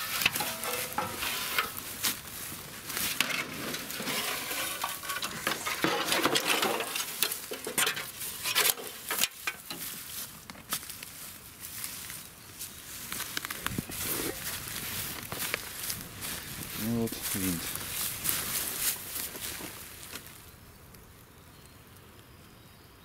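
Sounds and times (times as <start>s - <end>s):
dry grass crackling and rustling: 0.0s - 22.3s.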